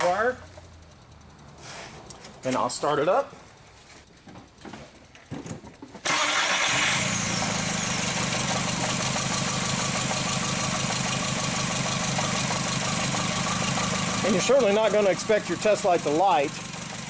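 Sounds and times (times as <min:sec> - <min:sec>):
car engine cranking and idling: 0:00.0 - 0:17.0.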